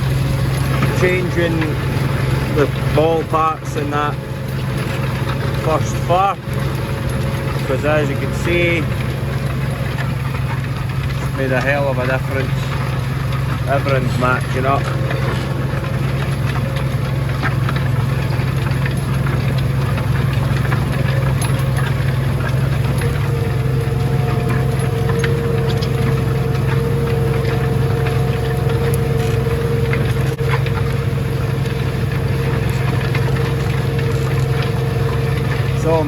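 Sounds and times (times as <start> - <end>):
faint steady whine: 0.0 - 36.0
tractor engine humming: 0.0 - 36.0.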